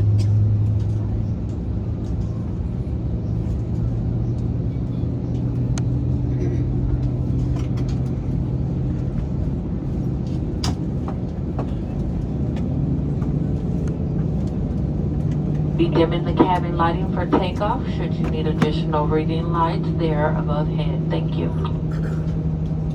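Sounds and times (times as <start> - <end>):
airliner cabin drone: 0.0 - 22.9.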